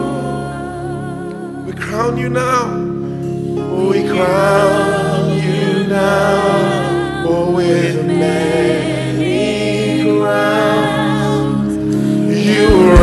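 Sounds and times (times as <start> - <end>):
gospel singing voices: 0.0 - 13.0
sustained accompaniment: 0.0 - 13.0.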